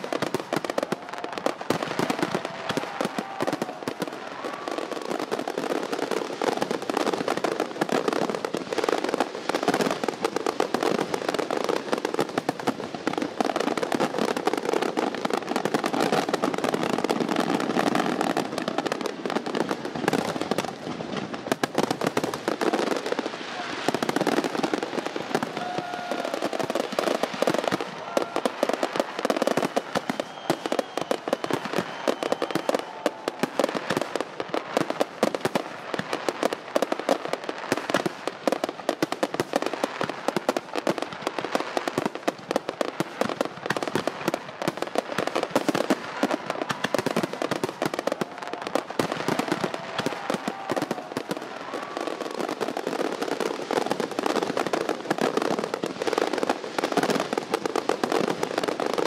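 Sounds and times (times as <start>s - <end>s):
fireworks crackling and banging: 0.0s - 59.0s.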